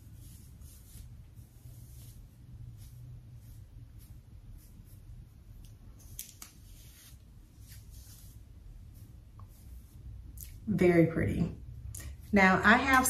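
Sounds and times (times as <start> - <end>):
comb swishing through hair: 0.0 - 13.0
low room hum: 0.0 - 13.0.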